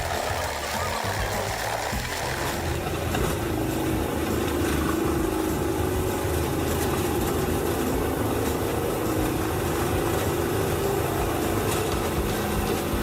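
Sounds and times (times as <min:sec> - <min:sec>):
wood chipper engine running: 0:00.0 - 0:13.0.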